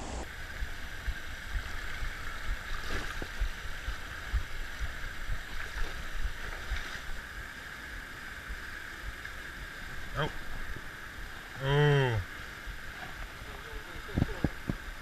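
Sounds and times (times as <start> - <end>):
water rushing from dam: 0.0 - 15.0.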